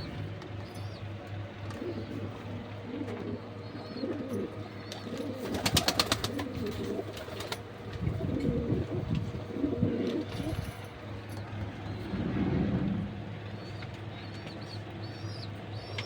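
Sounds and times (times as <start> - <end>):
pigeons cooing: 0.0 - 16.0
steady low hum: 0.0 - 16.0.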